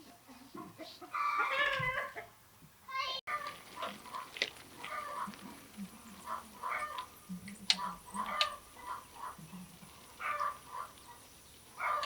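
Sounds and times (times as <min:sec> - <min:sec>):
chickens clucking: 0:00.0 - 0:02.4, 0:03.3 - 0:12.0.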